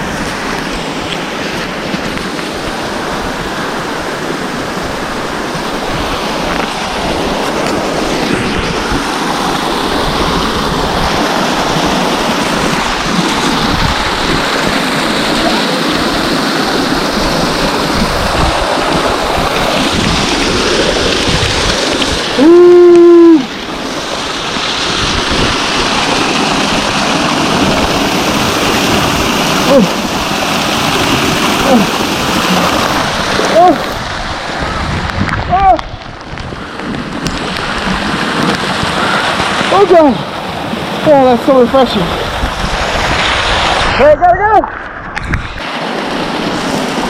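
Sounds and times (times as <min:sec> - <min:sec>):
waterfall rushing: 0:00.0 - 0:47.0
wind buffeting microphone: 0:01.5 - 0:47.0.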